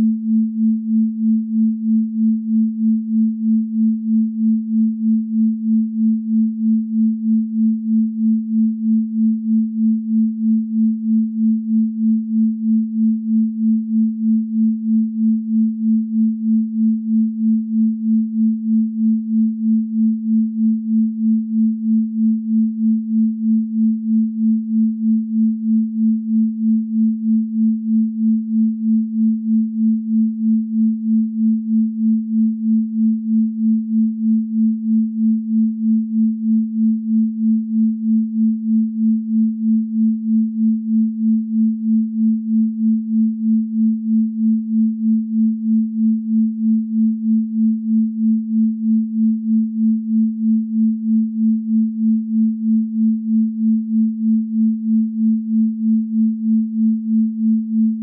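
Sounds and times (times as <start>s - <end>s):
pulsing sine tone: 0.0s - 58.0s.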